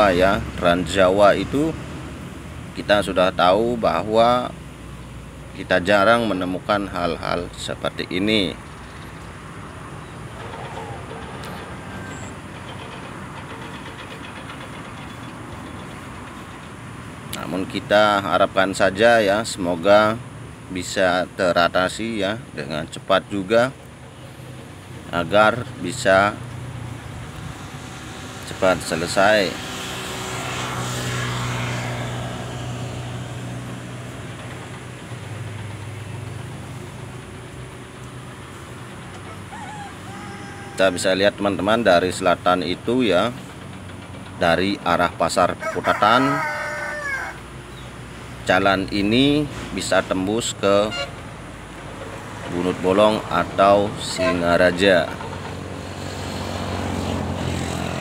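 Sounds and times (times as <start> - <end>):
distant motor traffic: 0.0 - 58.0
engine humming: 0.0 - 58.0.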